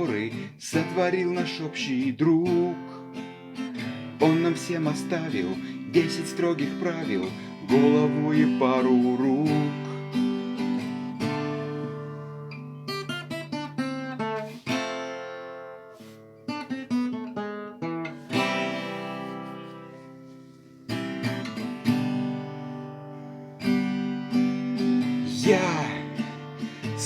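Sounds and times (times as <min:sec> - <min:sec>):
acoustic guitar playing: 0:00.0 - 0:27.0.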